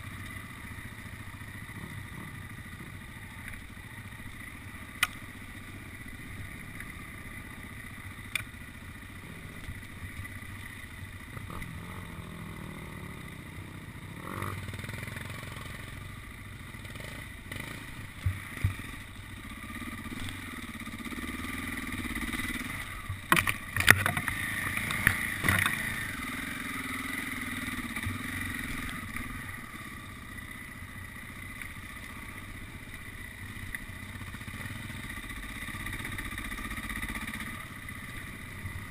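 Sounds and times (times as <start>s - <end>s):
dirt bike engine revving: 0.0s - 33.4s.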